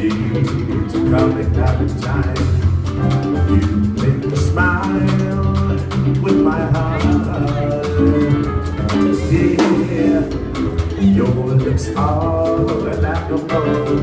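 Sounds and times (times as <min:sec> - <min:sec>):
drum kit: 0:00.0 - 0:14.0
electric guitar: 0:00.0 - 0:14.0
upright double bass: 0:00.0 - 0:14.0.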